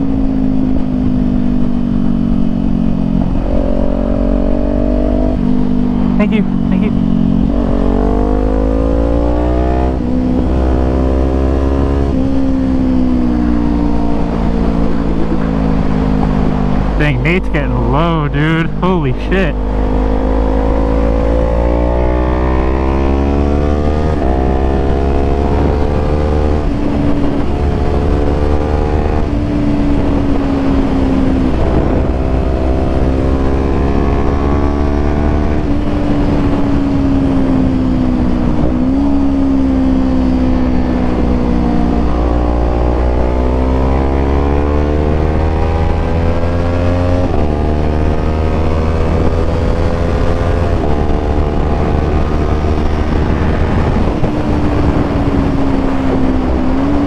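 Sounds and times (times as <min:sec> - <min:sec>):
low wind rumble: 0:00.0 - 0:57.0
motorcycle engine revving: 0:01.7 - 0:17.0, 0:19.5 - 0:57.0.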